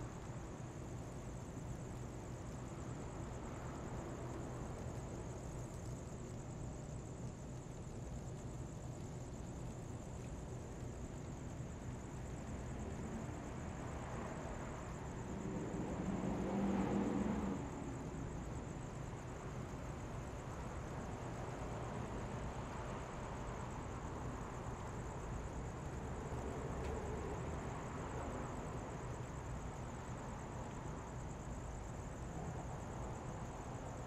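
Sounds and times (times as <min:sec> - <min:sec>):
distant traffic hum: 0:00.0 - 0:34.0
faint high-pitched whine: 0:00.0 - 0:34.0.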